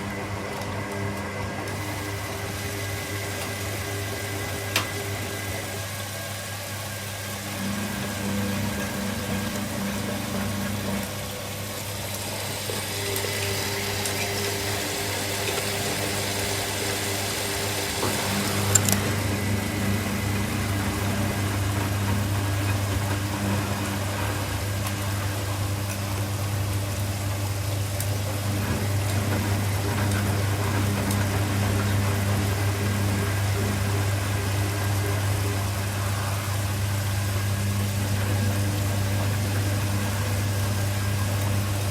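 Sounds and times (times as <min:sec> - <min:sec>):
washing machines humming: 0:00.0 - 0:41.9.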